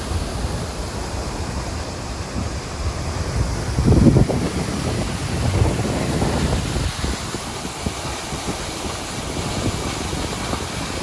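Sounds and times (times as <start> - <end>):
waterfall rushing: 0.0 - 11.0
wind buffeting the microphone: 0.0 - 11.0.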